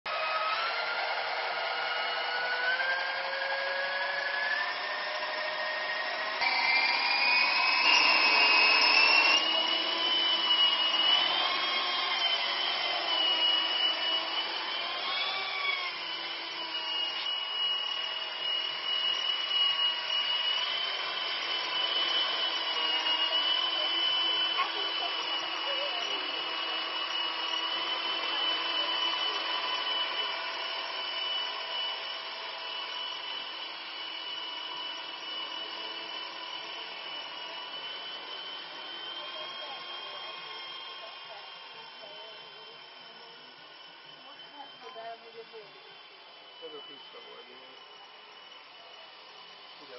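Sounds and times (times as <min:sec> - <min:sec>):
model helicopter rotor whine: 0:00.1 - 0:49.9.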